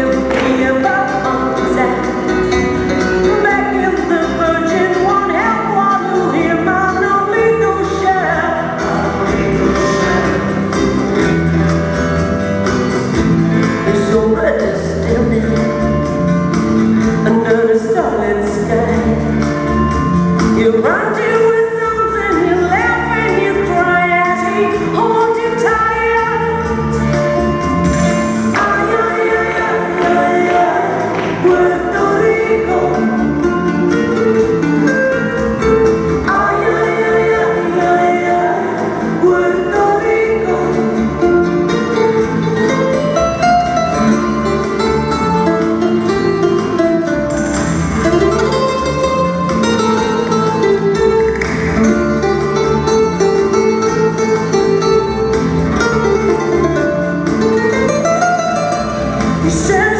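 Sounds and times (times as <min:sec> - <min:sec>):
song with vocals and instruments: 0:00.0 - 0:59.9.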